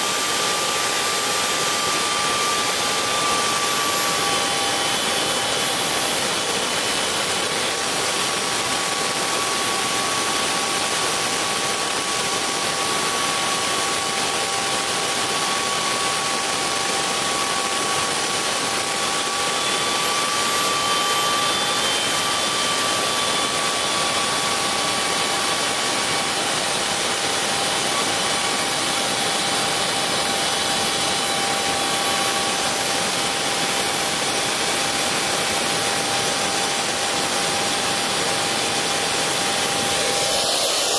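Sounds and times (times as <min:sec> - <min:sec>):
gas turbine rushing and whining: 0:00.0 - 0:40.9.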